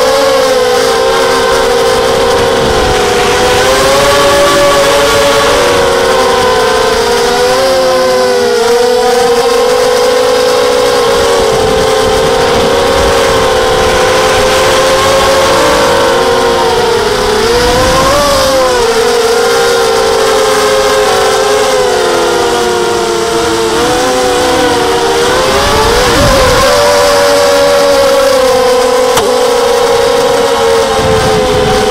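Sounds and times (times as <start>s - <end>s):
drone motors whining: 0.0s - 31.9s.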